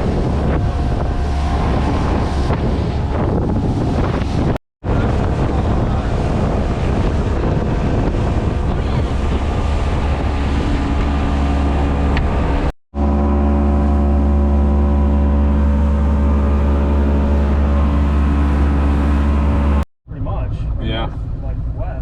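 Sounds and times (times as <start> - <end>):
boat motor running: 0.0 - 19.8
wind buffeting microphone: 0.0 - 19.8.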